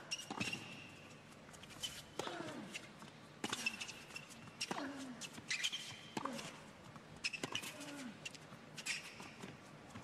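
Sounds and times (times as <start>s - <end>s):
shoe squeaks on court: 0.0s - 10.0s.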